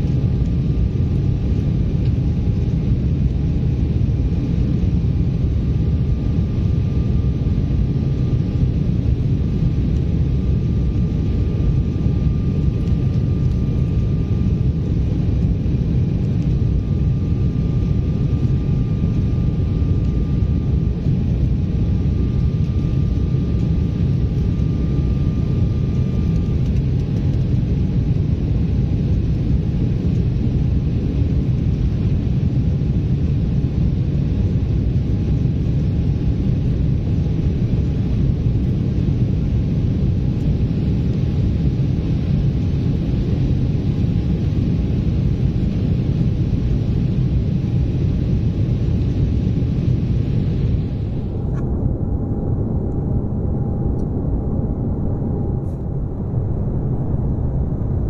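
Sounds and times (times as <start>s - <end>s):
faint high whine: 0.0s - 58.0s
jet engine rumble and airflow: 0.0s - 58.0s.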